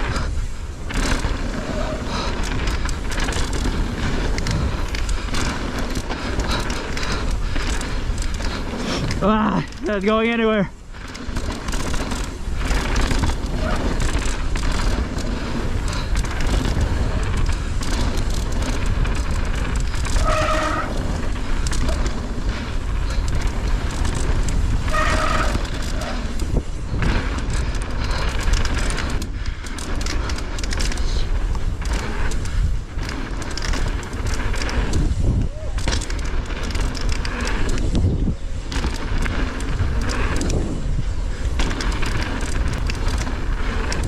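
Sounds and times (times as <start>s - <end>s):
bike rattling over bumps: 0.0s - 44.0s
wind and rolling rumble: 0.0s - 44.0s.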